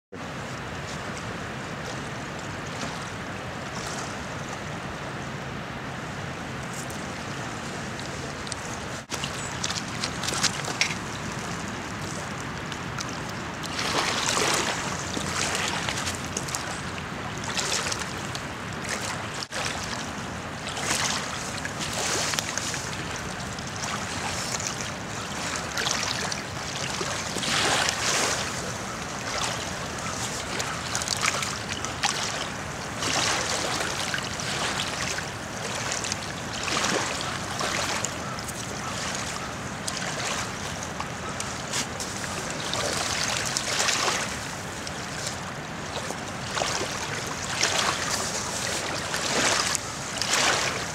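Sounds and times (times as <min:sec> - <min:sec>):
water washing against pebbly shore: 0:07.6 - 0:50.9.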